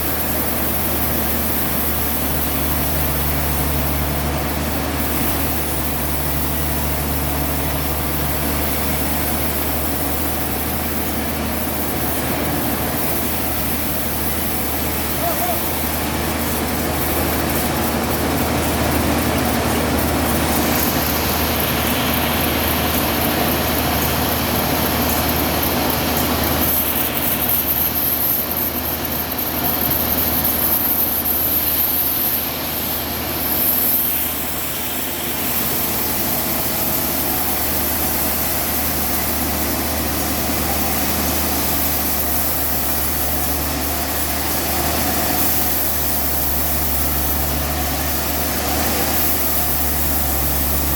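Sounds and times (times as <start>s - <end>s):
high hiss: 0.0s - 50.9s
sawmill machinery engine drone: 0.0s - 50.9s.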